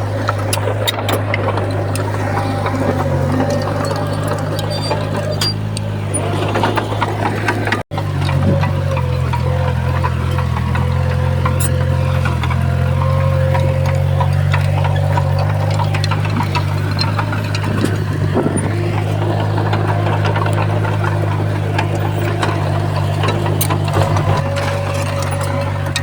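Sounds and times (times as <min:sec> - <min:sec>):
bulldozer diesel engine running: 0:00.0 - 0:26.0
sharp clicks and knocks: 0:00.0 - 0:26.0.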